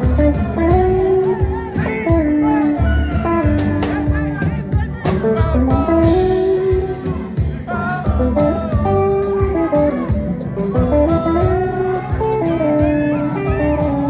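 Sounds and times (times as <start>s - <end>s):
bass: 0.0s - 14.0s
drums: 0.0s - 14.0s
electric guitar lead melody: 0.0s - 14.0s.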